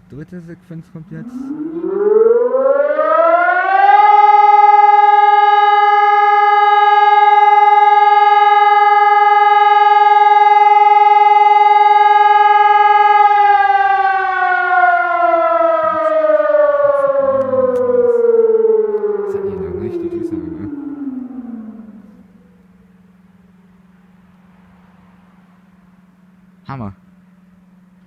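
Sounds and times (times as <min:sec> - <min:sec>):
warning siren: 0:01.0 - 0:26.6.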